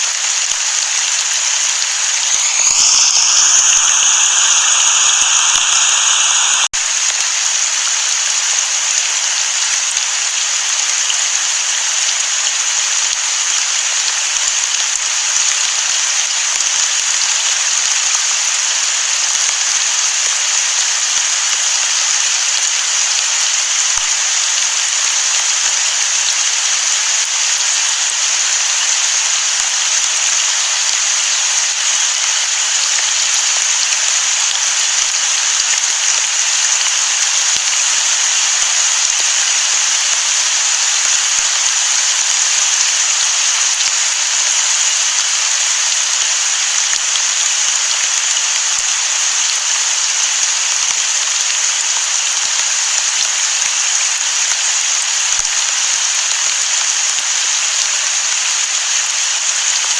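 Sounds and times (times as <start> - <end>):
rain falling on sea: 0.0 - 59.9.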